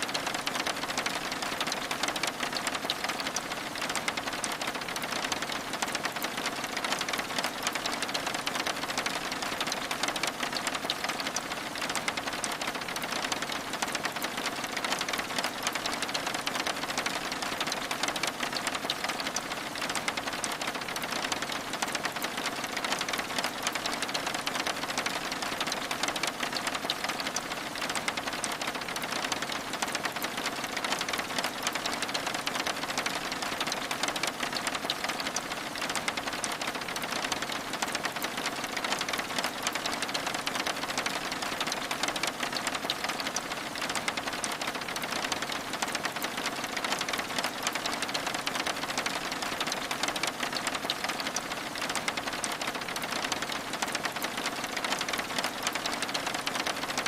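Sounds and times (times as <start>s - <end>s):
rain tapping on window glass: 0.0s - 57.0s.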